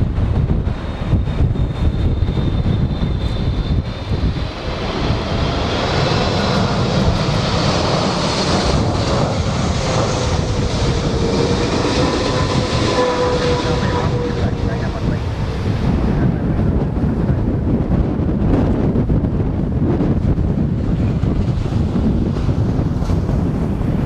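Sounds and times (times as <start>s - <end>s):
jet engines whining: 0.0s - 24.0s
wind buffeting on microphone: 0.0s - 24.0s.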